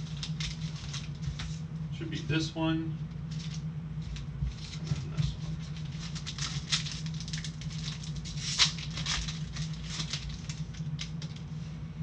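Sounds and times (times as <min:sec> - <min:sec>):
foil wrapper crinkling and tearing: 0:00.0 - 0:01.6, 0:03.3 - 0:11.5.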